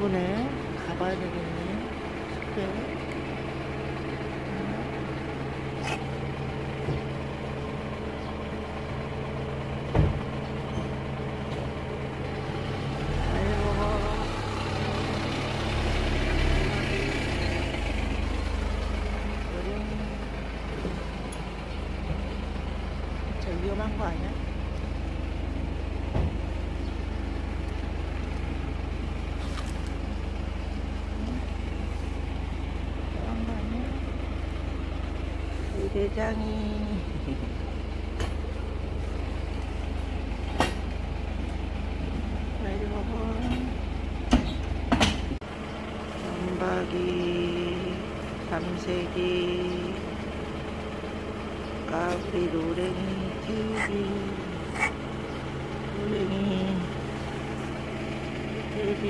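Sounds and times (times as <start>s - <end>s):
engine idling hum: 0.0s - 59.0s.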